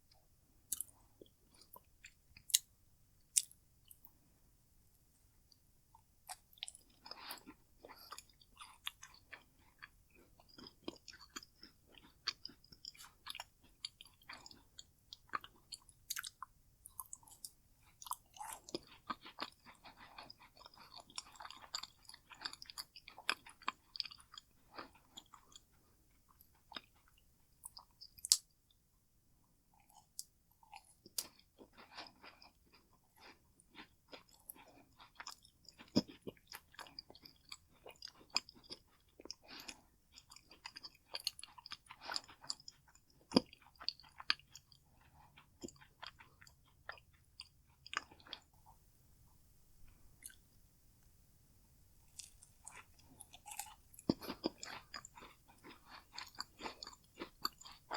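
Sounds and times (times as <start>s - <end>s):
person chewing crunchy food: 0.7s - 2.7s, 3.3s - 4.1s, 5.5s - 28.5s, 29.7s - 48.8s, 49.8s - 50.5s, 52.1s - 57.9s.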